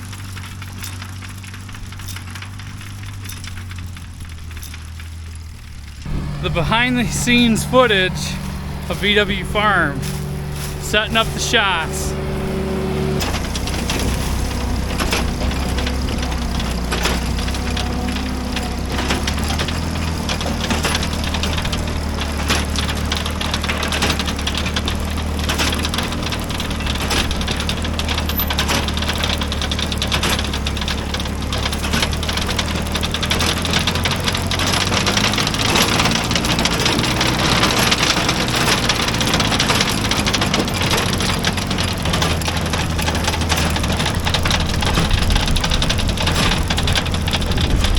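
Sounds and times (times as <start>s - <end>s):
clattering knocks and rattles: 0.0s - 6.4s, 12.2s - 47.9s
tractor engine running: 0.0s - 47.9s.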